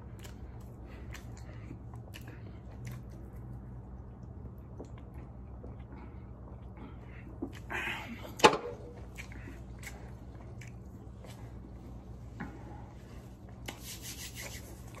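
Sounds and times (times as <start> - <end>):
person chewing with mouth closed: 0.0 - 15.0
steady low hum: 0.0 - 15.0.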